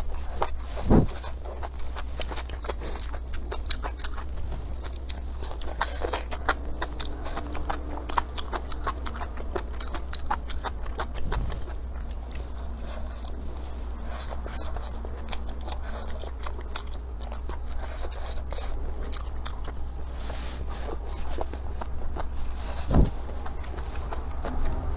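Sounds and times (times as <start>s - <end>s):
steady low hum: 0.0s - 24.9s
wet chewing and biting: 0.0s - 24.9s.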